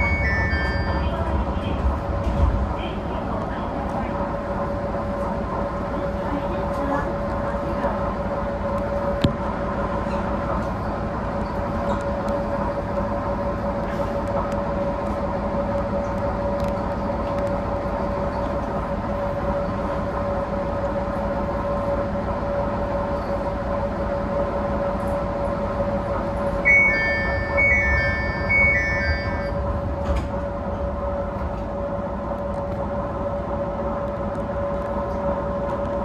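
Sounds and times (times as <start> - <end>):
diesel railcar running: 0.0 - 36.0.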